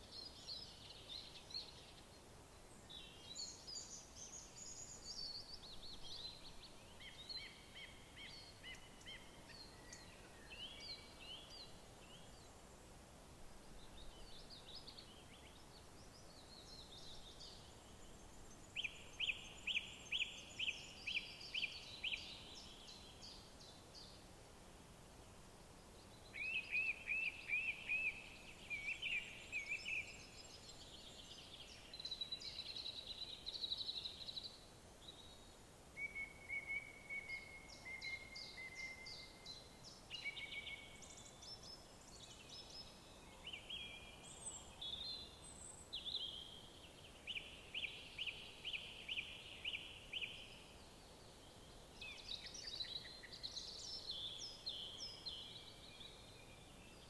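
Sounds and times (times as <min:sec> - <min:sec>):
songbirds singing: 0:00.0 - 0:12.8, 0:13.7 - 0:24.2, 0:25.8 - 0:57.0
faint steady hiss: 0:00.0 - 0:57.0.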